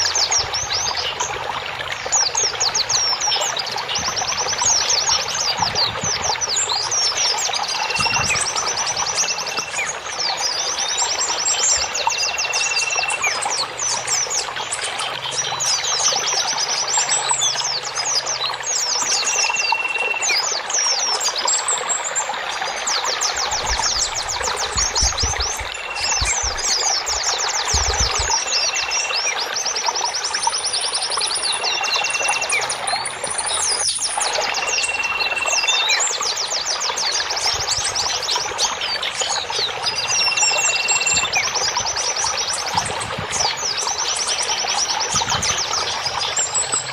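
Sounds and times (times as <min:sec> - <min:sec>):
rushing water-like noise: 0:00.0 - 0:46.9
songbirds chirping and trilling: 0:00.0 - 0:46.9.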